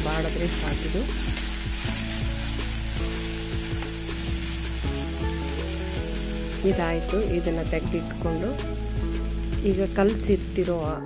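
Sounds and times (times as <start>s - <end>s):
wooden spatula stirring: 0.0s - 10.6s
background music with held notes: 0.0s - 11.0s
vegetables sizzling in oil: 0.0s - 11.0s.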